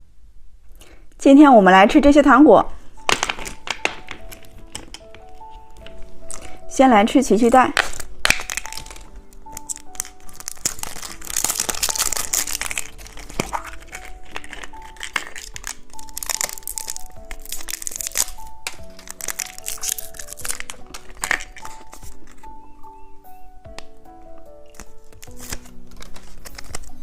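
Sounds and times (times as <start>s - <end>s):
light background music: 1.2s - 27.0s
wrapper crinkling and tearing: 3.0s - 6.7s, 7.3s - 23.1s, 23.7s - 27.0s.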